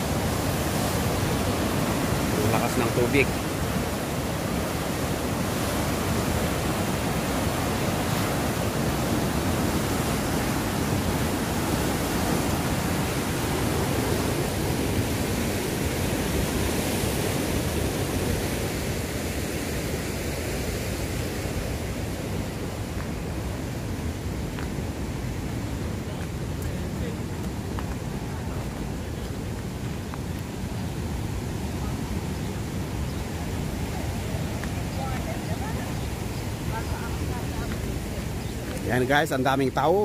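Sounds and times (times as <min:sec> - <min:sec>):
rush of white water: 0:00.0 - 0:40.0.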